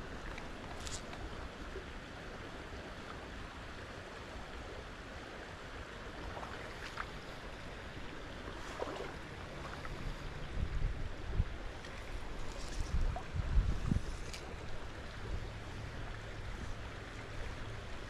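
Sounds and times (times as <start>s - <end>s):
stream flowing water: 0.0s - 18.0s.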